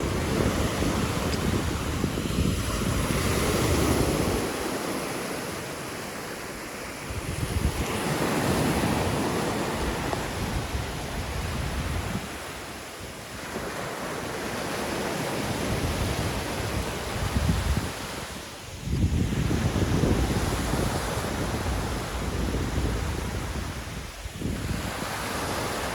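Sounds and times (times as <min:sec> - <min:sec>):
wind rumbling on microphone: 0:00.0 - 0:05.7, 0:07.0 - 0:13.8, 0:14.6 - 0:25.9
sea waves breaking on beach: 0:00.0 - 0:25.9.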